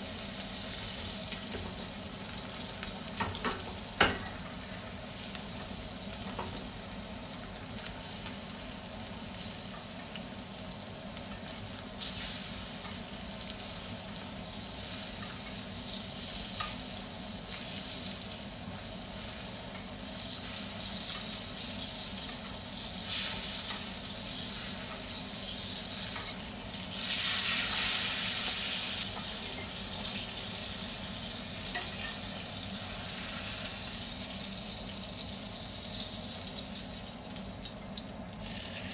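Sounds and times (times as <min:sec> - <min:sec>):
steak sizzling in a skillet: 0:00.0 - 0:38.9.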